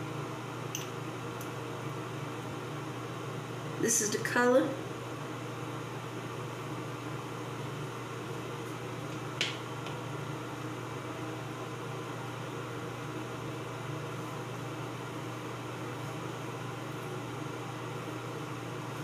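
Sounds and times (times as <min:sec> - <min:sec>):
ventilation hum: 0:00.0 - 0:19.0.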